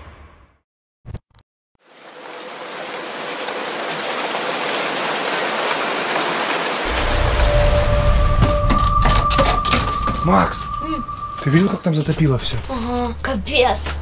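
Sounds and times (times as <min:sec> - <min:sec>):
heavy rain: 0:01.8 - 0:13.8.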